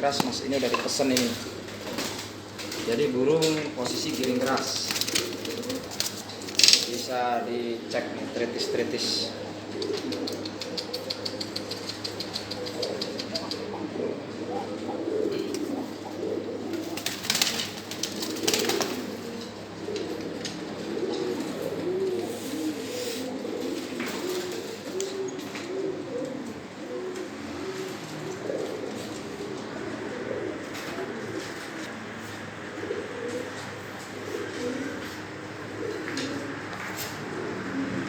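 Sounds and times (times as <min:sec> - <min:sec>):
pigeons cooing: 0:00.0 - 0:38.0.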